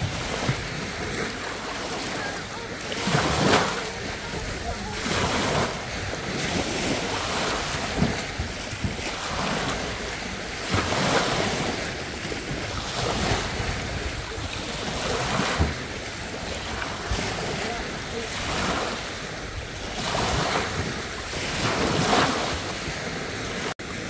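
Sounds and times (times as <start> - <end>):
small waves breaking on beach: 0.0 - 24.0
wind gusts on microphone: 0.0 - 24.0.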